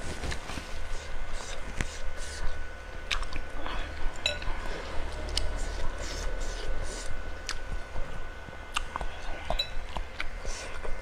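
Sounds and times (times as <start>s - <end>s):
low steady hum: 0.0s - 11.0s
close chewing with mouth smacks: 0.2s - 11.0s.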